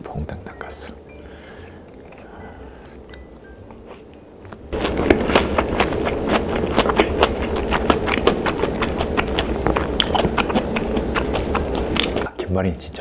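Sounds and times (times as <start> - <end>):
person chewing crunchy food: 1.3 - 12.3.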